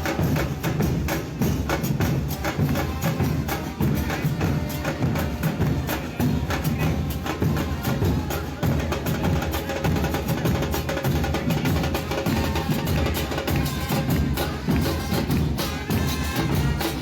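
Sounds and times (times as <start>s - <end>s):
music with fast percussion beat: 0.0s - 17.0s.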